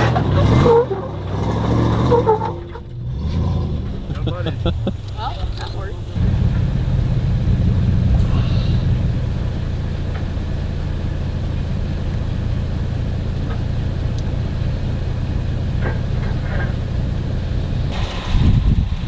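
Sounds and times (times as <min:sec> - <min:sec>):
truck engine rumbling at low revs: 0:00.0 - 0:19.0.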